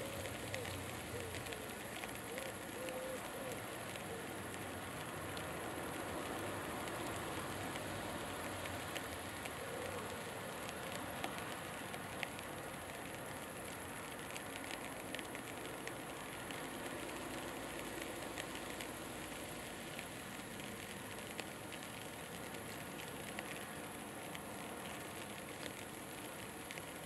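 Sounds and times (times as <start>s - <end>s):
faint ticks: 0.0s - 27.0s.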